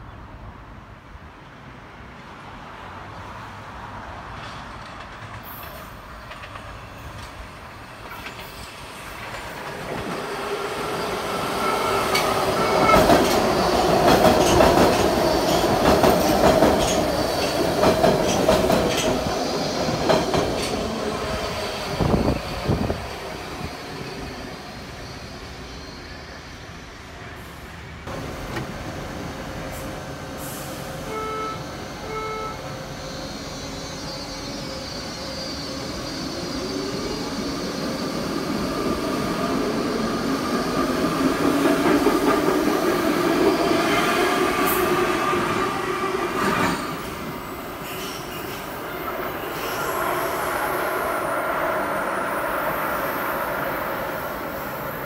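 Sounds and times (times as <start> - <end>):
quiet train hum: 0.0 - 55.0
subway train whine: 0.7 - 55.0.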